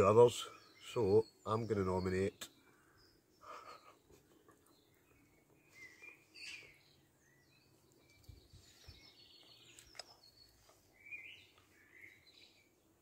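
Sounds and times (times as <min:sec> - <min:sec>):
woodland birdsong: 0:00.0 - 0:13.0.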